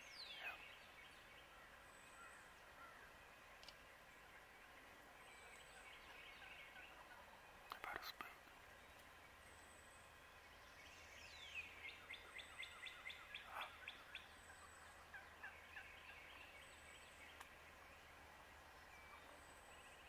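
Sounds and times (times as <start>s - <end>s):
faint wild turkey calling: 0.0s - 20.0s.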